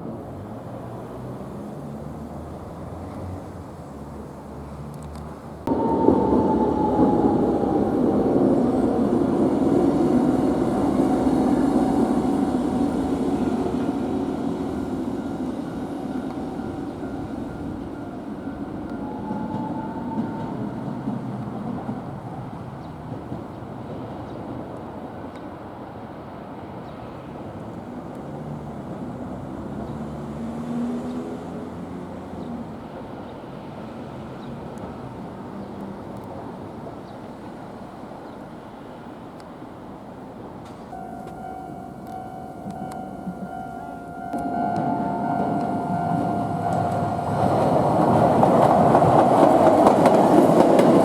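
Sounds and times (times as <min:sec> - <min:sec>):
streetcar motor whine: 0:00.0 - 0:51.0
streetcar rumble: 0:00.0 - 0:51.0.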